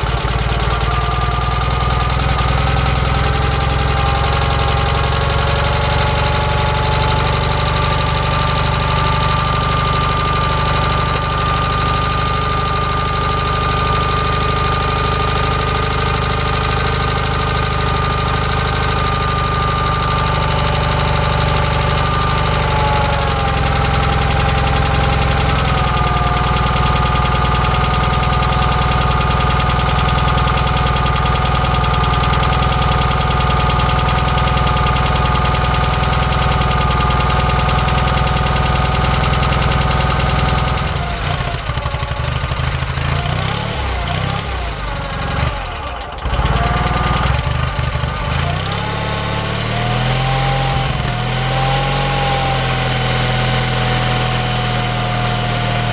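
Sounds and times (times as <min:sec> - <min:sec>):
twin-cylinder engine running: 0:00.0 - 0:55.9.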